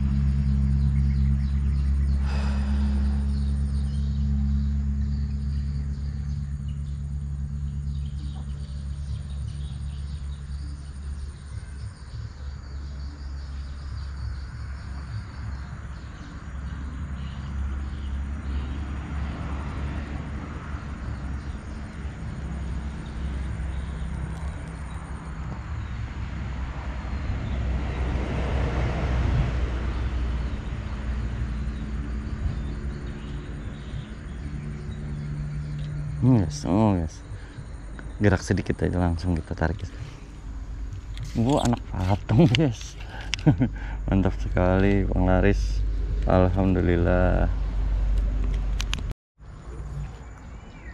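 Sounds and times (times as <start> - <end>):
highway traffic rumble: 0.0 - 50.9
vehicle passing: 0.0 - 50.9.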